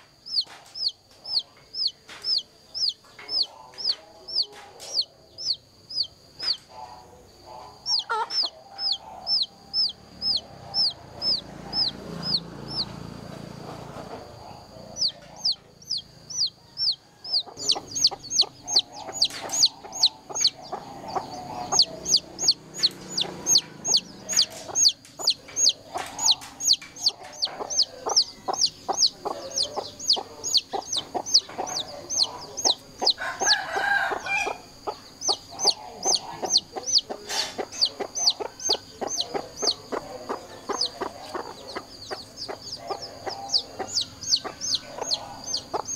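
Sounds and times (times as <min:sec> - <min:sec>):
chick peeping: 0:00.0 - 0:45.9.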